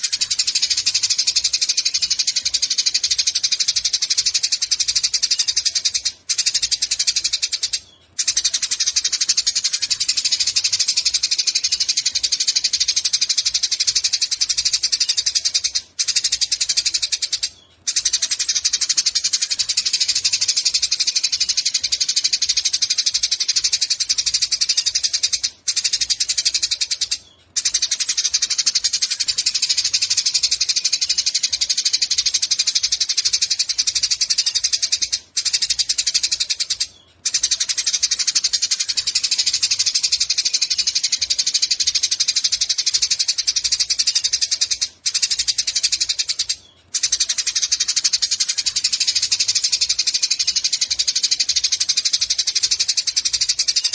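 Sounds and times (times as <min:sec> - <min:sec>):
sparrow chirping: 0:00.0 - 0:53.9.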